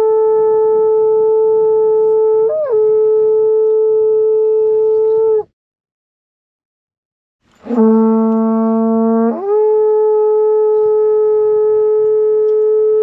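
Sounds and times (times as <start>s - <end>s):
conch-shell trumpet blown: 0.0s - 5.5s, 7.5s - 13.0s.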